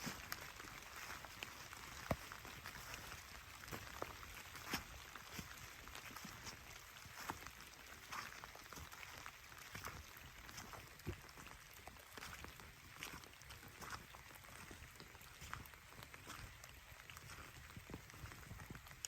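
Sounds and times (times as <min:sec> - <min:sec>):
raindrops ticking and dripping: 0:00.0 - 0:19.0
soft rain hiss: 0:00.0 - 0:19.0.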